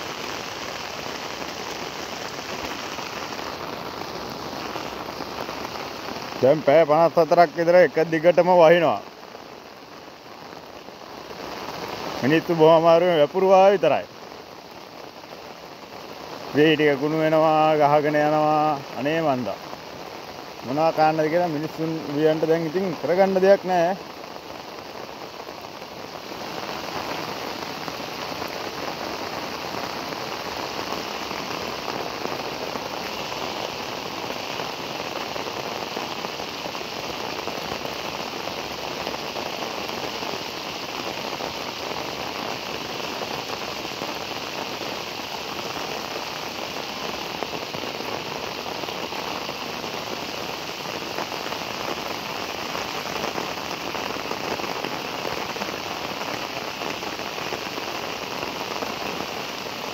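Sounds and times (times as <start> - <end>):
heavy rain on flooded fields: 0.0 - 59.9.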